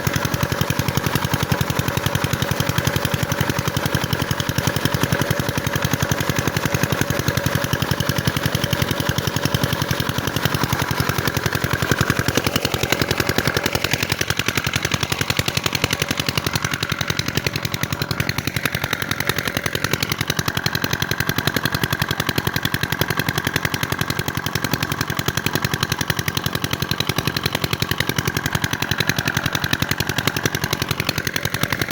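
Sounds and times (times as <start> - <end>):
diesel engine chugging: 0.0 - 31.9.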